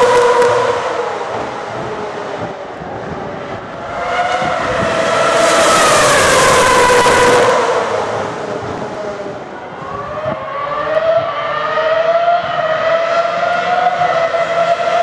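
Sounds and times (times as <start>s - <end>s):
racing car engine passing by: 0.0s - 15.0s.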